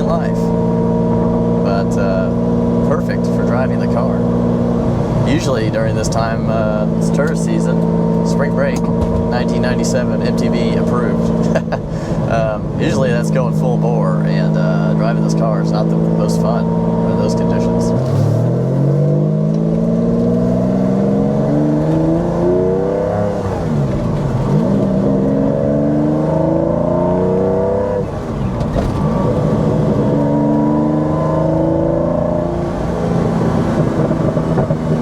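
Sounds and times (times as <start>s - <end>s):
exhaust crackling: 0.0s - 35.0s
sports car engine revving hard: 0.0s - 35.0s.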